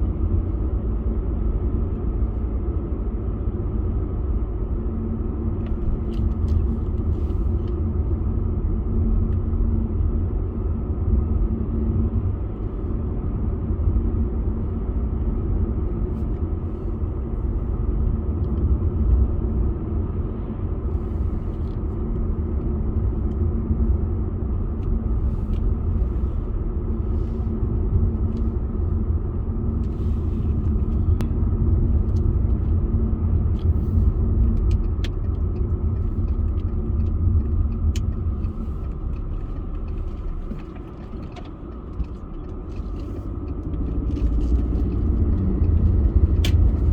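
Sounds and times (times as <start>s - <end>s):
car driving on road: 0.0s - 46.9s.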